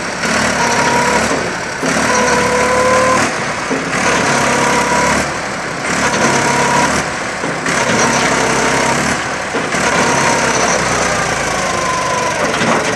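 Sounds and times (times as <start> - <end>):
tractor diesel engine straining: 0.0 - 12.9.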